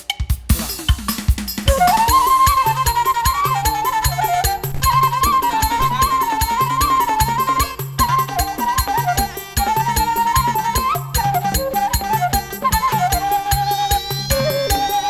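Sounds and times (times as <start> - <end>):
steady drum beat: 0.0 - 15.0
reedy wind melody: 1.7 - 15.0.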